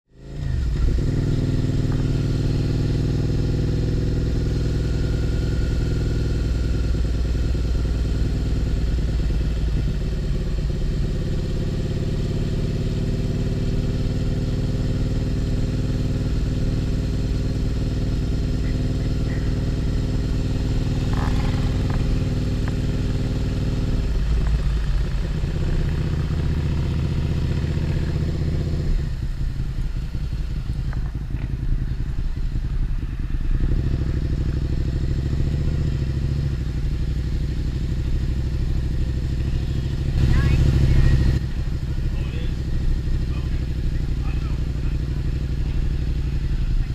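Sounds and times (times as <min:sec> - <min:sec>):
motorcycle engine running: 0:00.1 - 0:46.9.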